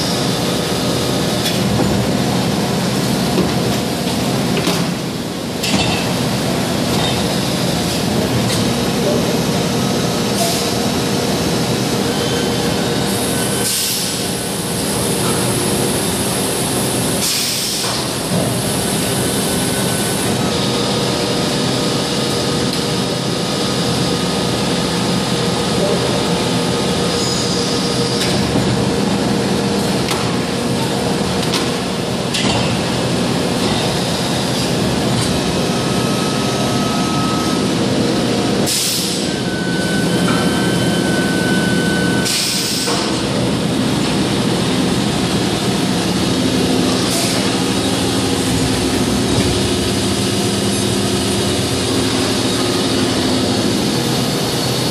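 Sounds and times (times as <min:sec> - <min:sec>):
injection moulding machine humming: 0:00.0 - 0:54.9.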